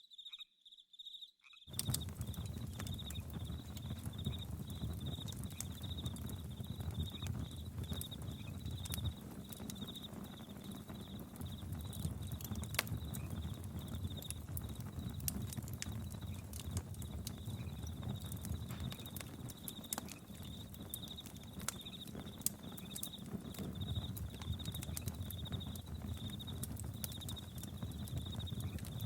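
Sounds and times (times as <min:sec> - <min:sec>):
crickets chirping: 0:00.0 - 0:29.0
campfire crackling and popping: 0:01.7 - 0:29.0.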